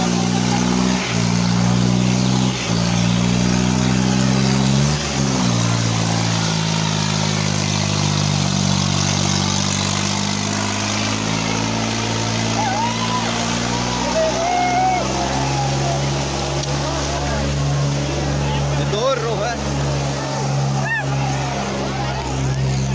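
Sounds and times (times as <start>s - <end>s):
tractor diesel engine under load: 0.0s - 22.9s.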